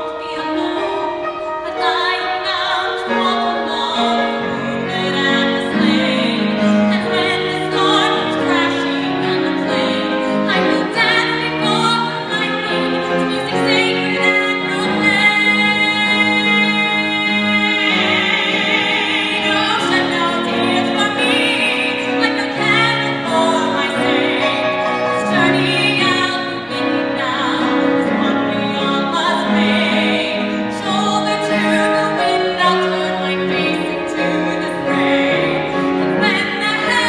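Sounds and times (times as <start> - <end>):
woman singing operatic ballad: 0.0 - 37.0.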